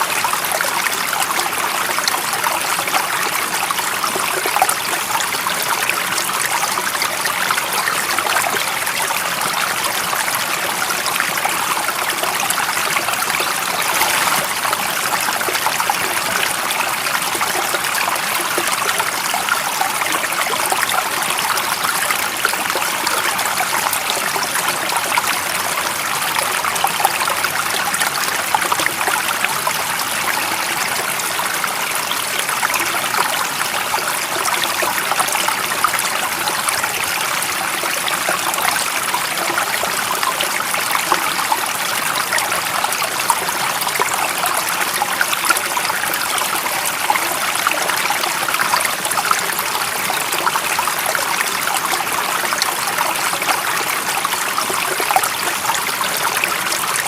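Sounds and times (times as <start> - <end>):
running water trickling: 0.0 - 57.0.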